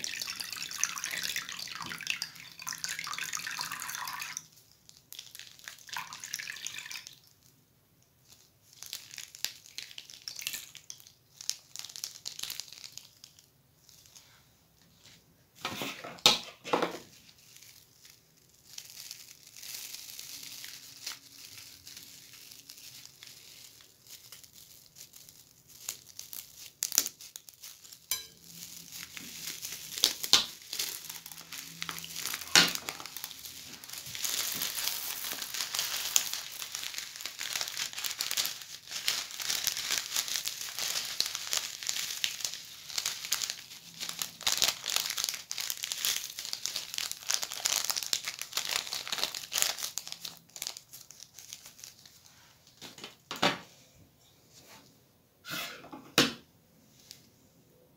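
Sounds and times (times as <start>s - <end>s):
beads crackling in slime: 0.0s - 14.3s, 17.0s - 52.8s
plastic piping bag crinkling: 0.0s - 14.4s, 15.6s - 53.3s.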